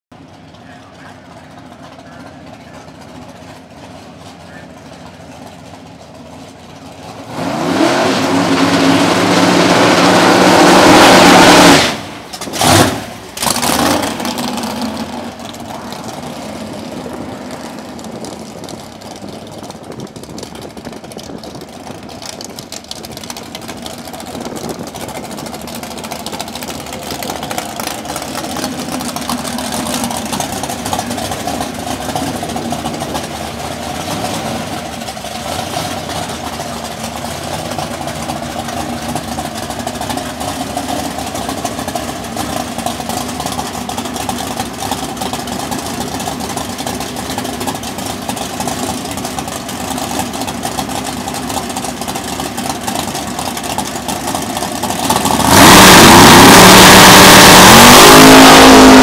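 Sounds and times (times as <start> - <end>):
vee eight engine revving and idling: 0.2 - 59.0.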